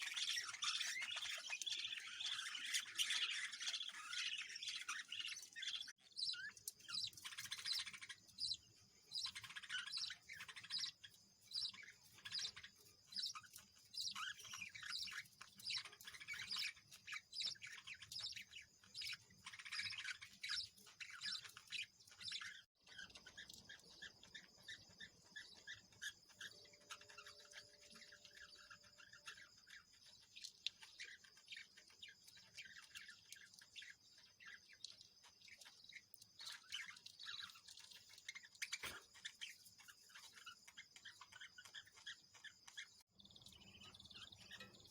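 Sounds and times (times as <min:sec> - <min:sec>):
birds chirping and twittering: 0:00.0 - 0:44.9.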